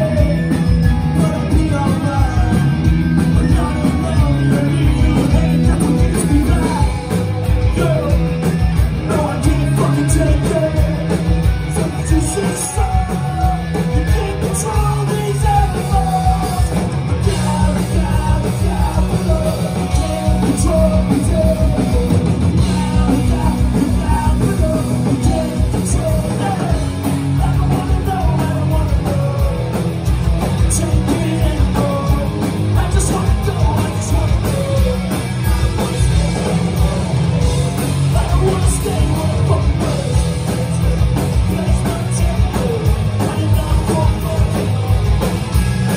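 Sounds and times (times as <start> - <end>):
punk rock band playing live: 0.0 - 45.9.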